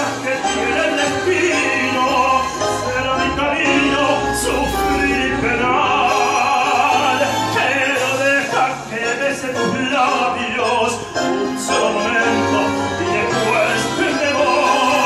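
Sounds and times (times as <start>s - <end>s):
man singing opera: 0.0s - 15.0s
recorded music through speaker: 0.0s - 15.0s.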